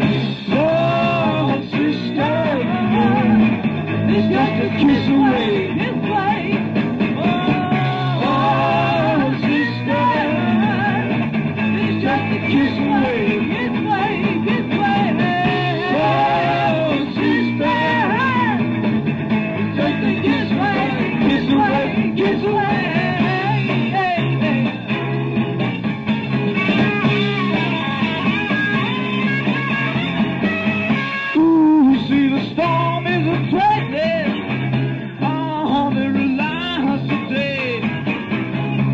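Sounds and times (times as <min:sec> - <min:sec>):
rock and roll song with singer: 0:00.0 - 0:38.9
steady bass line: 0:00.0 - 0:38.9.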